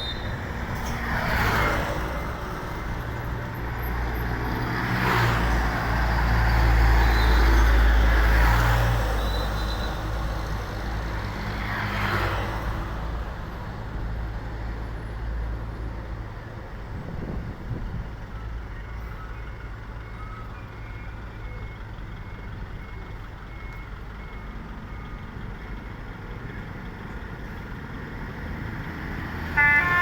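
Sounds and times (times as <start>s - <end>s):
bus diesel engine rumbling: 0.0s - 30.0s.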